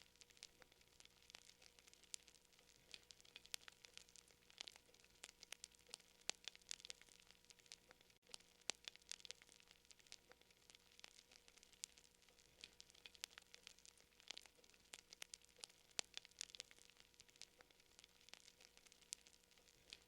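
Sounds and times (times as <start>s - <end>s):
faint hiss: 0.0s - 20.0s
fire crackling and popping: 0.0s - 20.0s.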